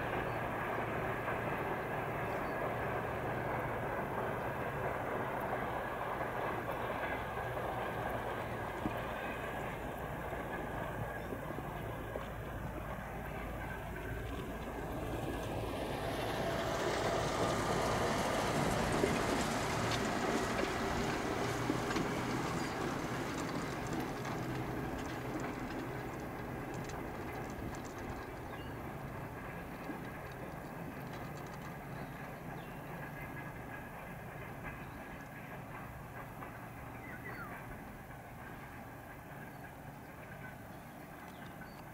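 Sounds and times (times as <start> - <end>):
diesel engines droning: 0.0 - 41.9
wagon wheels rumbling on rails: 0.0 - 41.9.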